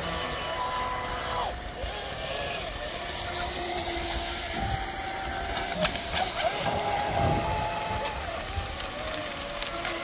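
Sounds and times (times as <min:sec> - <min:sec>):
electric motors whining: 0:00.0 - 0:10.0.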